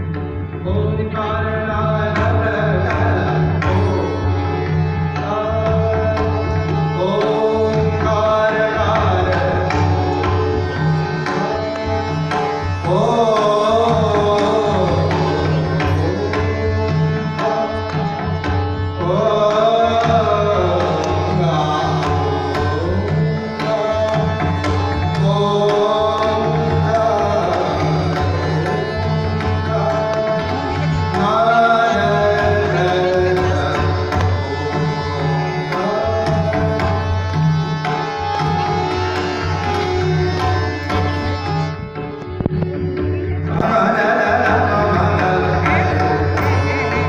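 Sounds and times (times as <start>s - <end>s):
harmonium: 0.0s - 47.0s
tabla: 0.0s - 47.0s.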